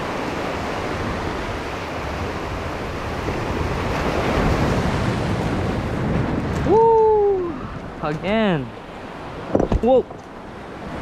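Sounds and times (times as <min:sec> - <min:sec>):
surf breaking over boulders: 0:00.0 - 0:10.2
wind buffeting microphone: 0:00.0 - 0:11.0.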